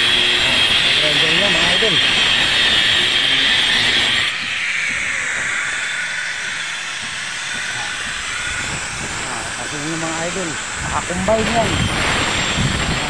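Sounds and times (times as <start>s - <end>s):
angle grinder grinding concrete: 0.0s - 13.0s.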